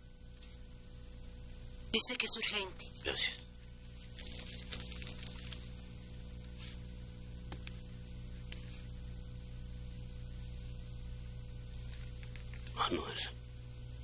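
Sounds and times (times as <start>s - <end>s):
electrical mains hum: 0.0s - 14.0s
soundtrack hiss: 0.0s - 14.0s.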